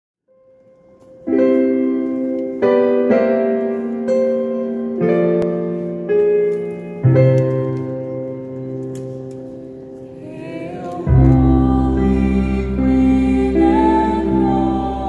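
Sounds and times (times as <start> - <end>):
slow piano chords: 0.3 - 15.0.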